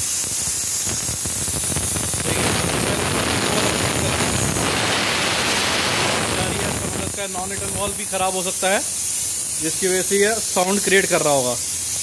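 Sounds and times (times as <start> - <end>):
air hissing: 0.0 - 12.0.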